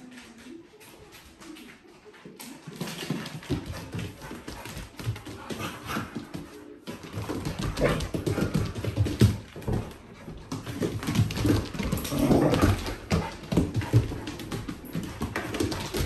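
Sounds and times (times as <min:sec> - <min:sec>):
dog paws scrabbling on wood: 0:00.0 - 0:16.0.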